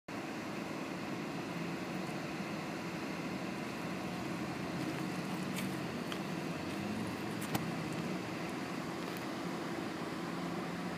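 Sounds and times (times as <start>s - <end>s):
distant engine drone: 0.1s - 10.9s
faint hum: 0.1s - 10.9s.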